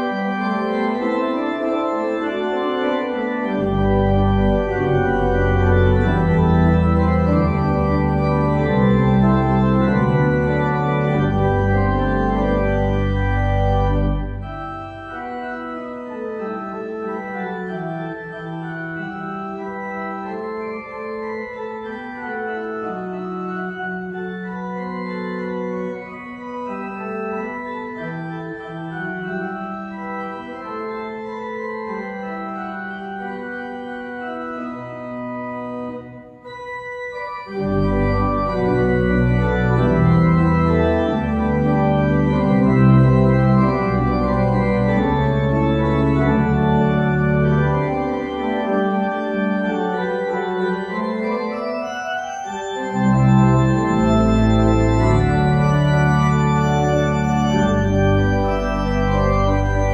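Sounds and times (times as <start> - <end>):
church organ chords: 0.0 - 59.9.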